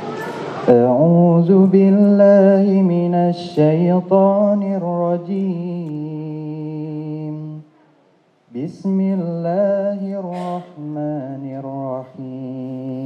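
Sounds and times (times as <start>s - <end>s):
man chanting into microphone: 0.7s - 7.7s, 8.5s - 13.0s.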